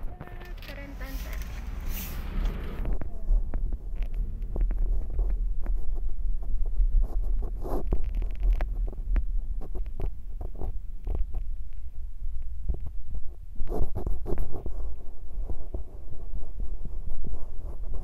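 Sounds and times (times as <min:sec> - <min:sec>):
car interior rumble: 0:00.0 - 0:18.0.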